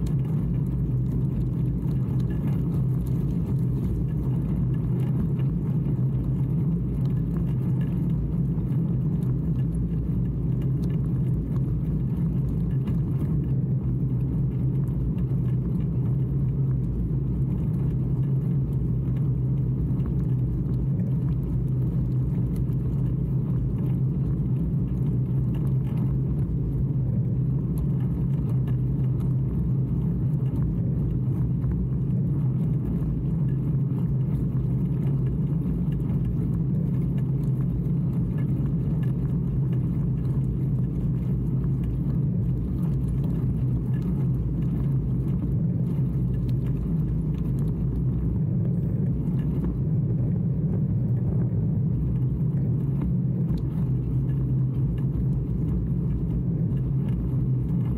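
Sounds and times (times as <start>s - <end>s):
wind on microphone: 0.0s - 57.9s.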